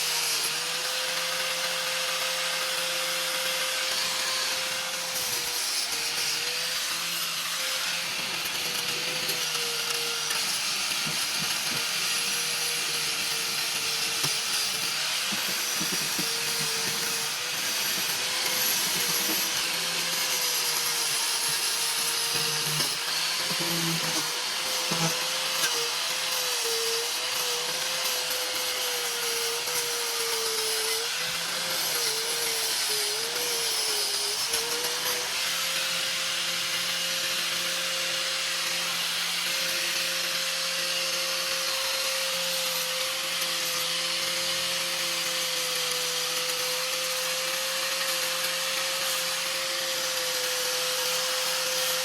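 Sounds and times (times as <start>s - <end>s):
power sander on steel: 0.0s - 52.0s.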